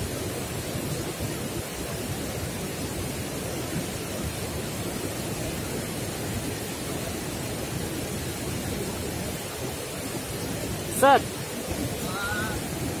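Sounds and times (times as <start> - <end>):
river water rushing over weir: 0.0 - 13.0.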